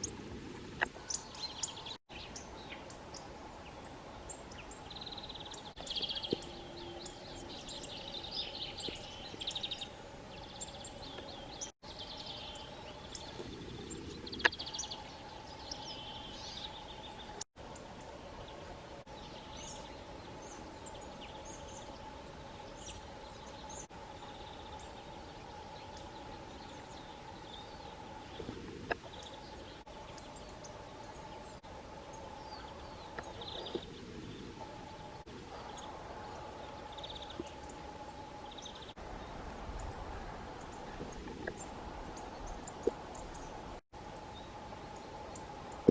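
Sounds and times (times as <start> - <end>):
small songbirds chirping: 0.0 - 45.9.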